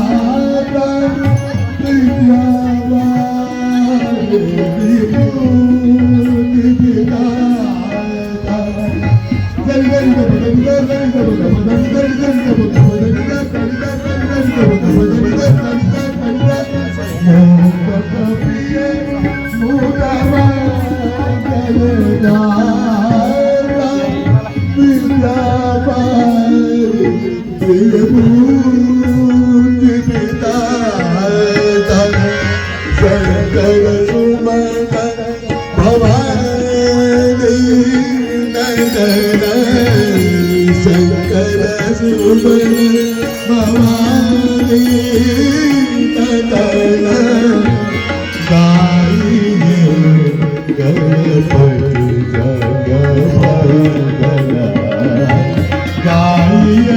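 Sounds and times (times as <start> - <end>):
tabla drumming: 0.0 - 56.9
voices singing: 0.0 - 56.9
wavering melody line: 0.0 - 56.9.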